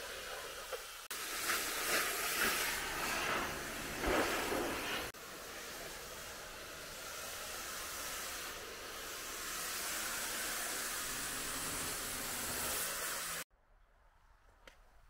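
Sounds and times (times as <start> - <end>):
steady hiss: 0.0 - 13.5.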